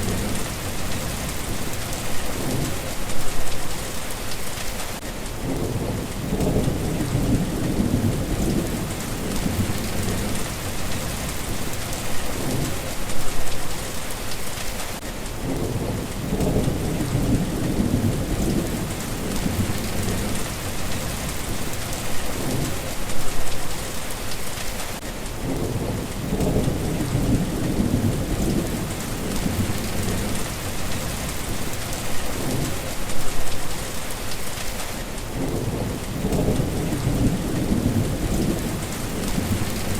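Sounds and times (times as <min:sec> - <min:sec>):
thunder rolling: 0:00.0 - 0:03.6, 0:05.4 - 0:13.5, 0:15.4 - 0:23.6, 0:25.4 - 0:33.6, 0:35.3 - 0:39.9
steady rain: 0:00.0 - 0:39.9.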